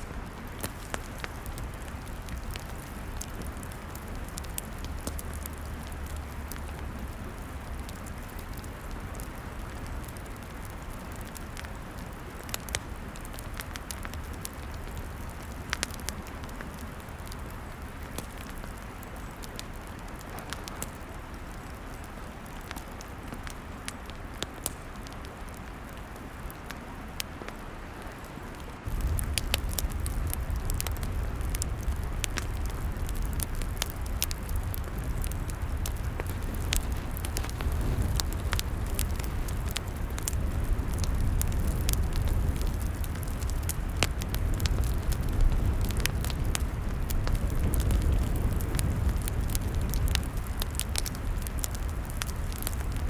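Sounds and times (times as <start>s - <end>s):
fire crackles and pops: 0.0s - 53.0s
log fire hissing and rumbling: 0.0s - 53.0s.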